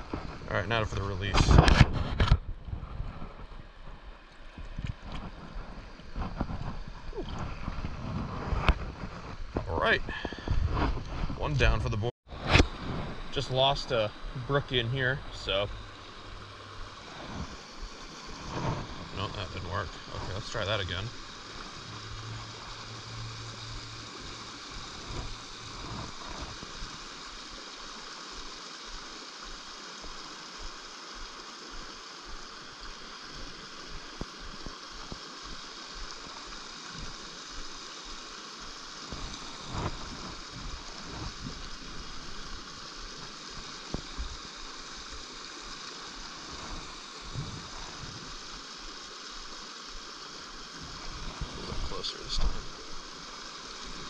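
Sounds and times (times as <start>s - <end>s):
brook water rushing and gurgling: 0.0s - 54.0s.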